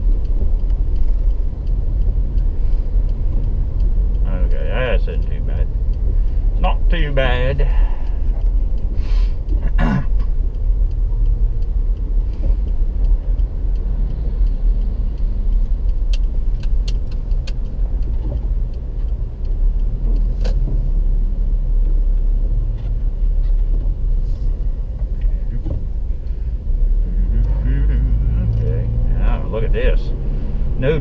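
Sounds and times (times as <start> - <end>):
engine and road rumble: 0.0 - 31.0.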